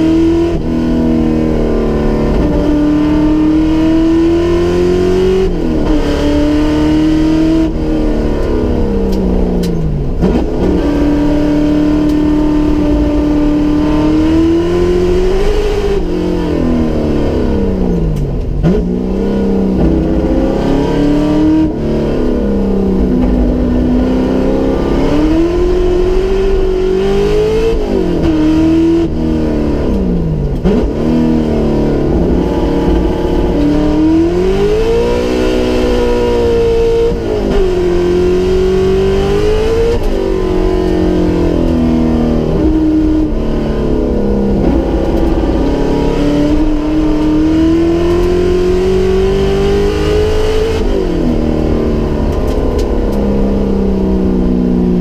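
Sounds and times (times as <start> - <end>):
car engine revving under load: 0.0 - 55.0.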